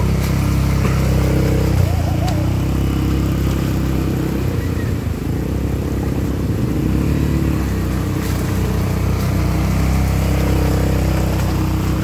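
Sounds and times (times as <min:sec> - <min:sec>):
quad bike engine running: 0:00.0 - 0:12.0
wheels splashing through water: 0:00.0 - 0:12.0.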